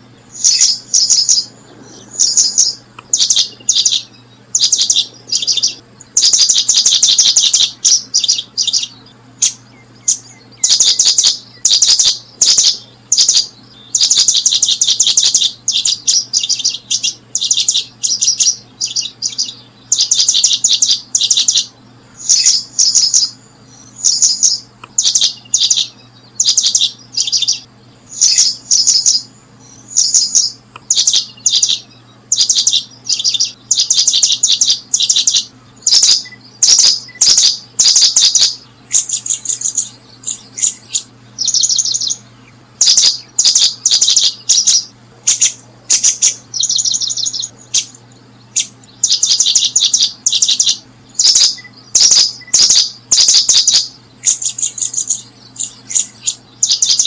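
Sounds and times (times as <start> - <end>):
small bird chirping: 0.0 - 57.0.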